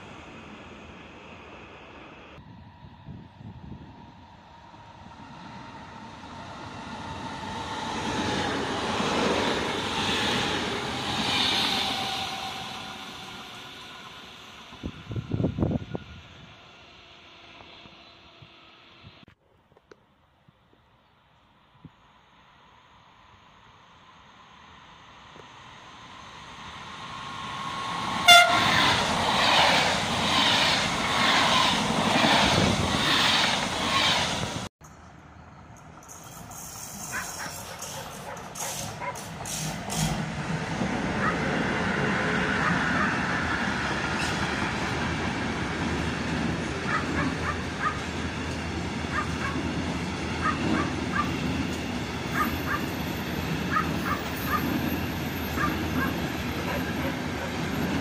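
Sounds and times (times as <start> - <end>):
freight train running past: 0.0 - 19.3, 21.6 - 58.0
train passing close: 0.0 - 19.3, 21.6 - 58.0.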